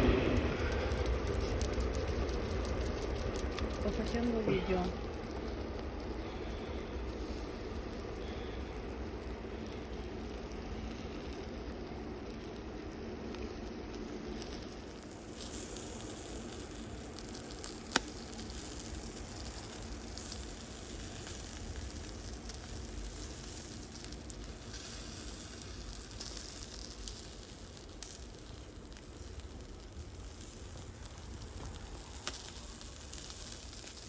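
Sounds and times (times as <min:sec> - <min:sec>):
food sizzling: 0:00.0 - 0:34.0.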